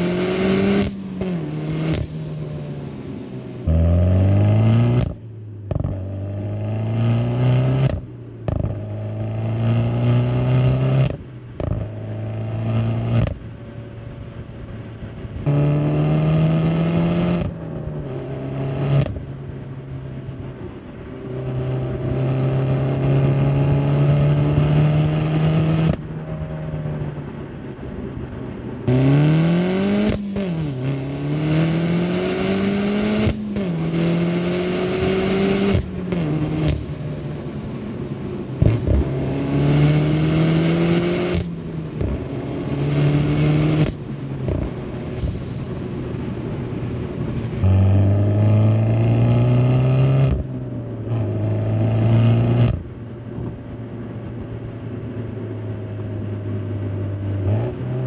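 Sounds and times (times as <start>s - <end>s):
car engine accelerating hard: 0.0s - 13.4s, 15.1s - 53.9s.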